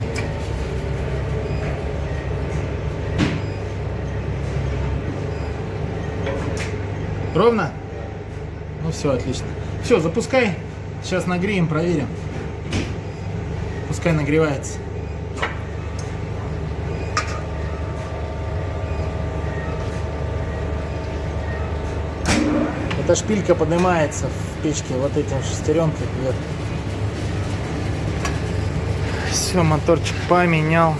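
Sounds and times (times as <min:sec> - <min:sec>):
low machinery hum: 0:00.0 - 0:30.9
oven mechanical drone: 0:00.0 - 0:30.9.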